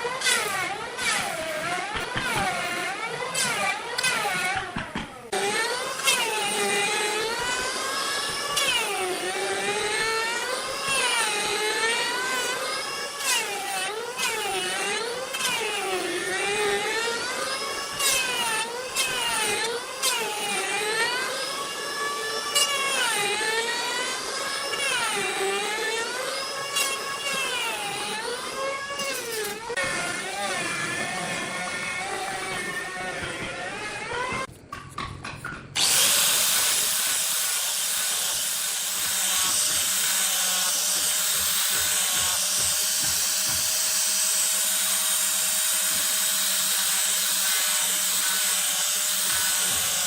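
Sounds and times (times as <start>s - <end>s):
power tool motor cutting wood: 0.0s - 34.5s, 35.8s - 50.0s.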